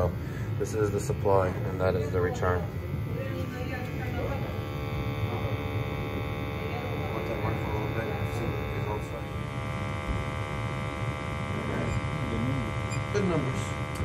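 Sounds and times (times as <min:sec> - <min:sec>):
gas boiler rumble: 0:00.0 - 0:14.0
steady electric hum: 0:00.0 - 0:14.0.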